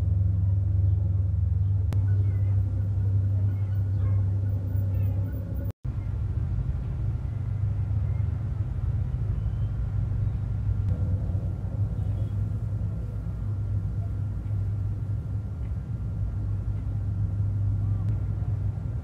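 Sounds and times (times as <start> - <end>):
boats rumbling on water: 0.0 - 19.0.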